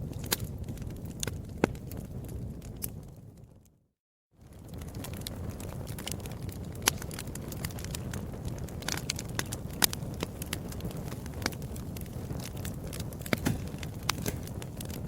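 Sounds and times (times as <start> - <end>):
wood fire crackling: 0.0 - 3.8, 4.4 - 15.0
low rumble of flames: 0.0 - 15.0.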